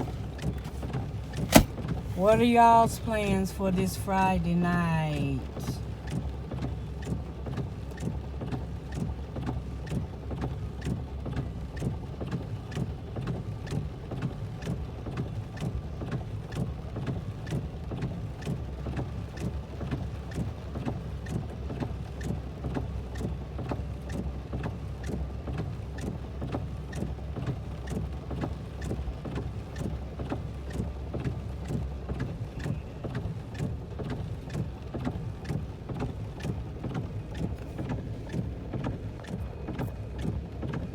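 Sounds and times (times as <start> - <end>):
rain rumble inside vehicle: 0.0 - 40.9
raindrops ticking on roof and glass: 5.8 - 40.8.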